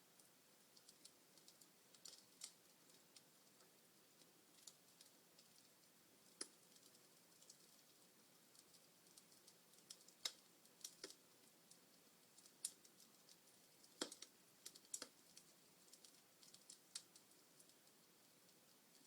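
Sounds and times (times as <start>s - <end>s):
burning logs crackling: 0.0s - 19.0s.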